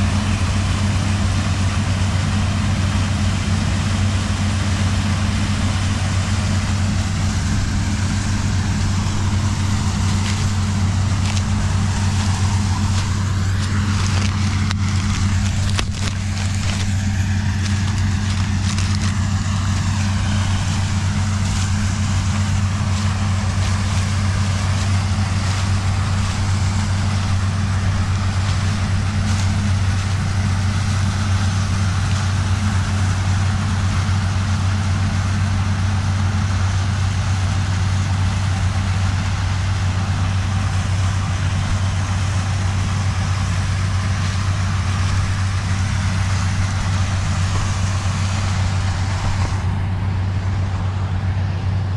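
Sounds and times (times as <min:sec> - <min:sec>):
combine harvester diesel engine: 0:00.0 - 0:51.9.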